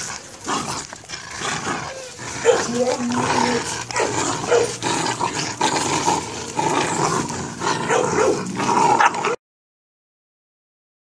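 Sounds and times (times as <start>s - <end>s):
puppies growling and barking: 0.0s - 9.4s.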